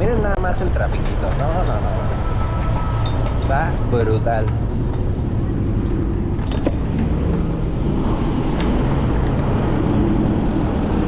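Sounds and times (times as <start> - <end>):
slow city traffic rumble: 0.0 - 11.0.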